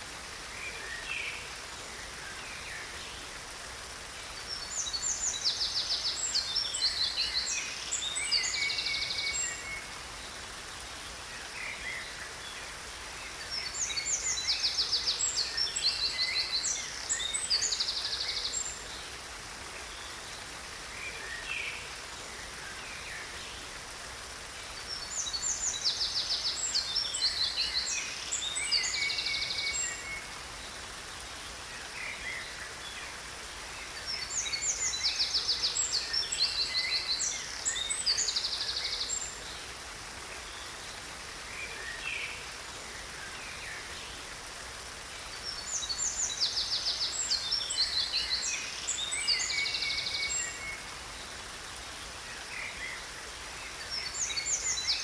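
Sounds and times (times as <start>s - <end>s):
cascading water: 0.0s - 55.0s.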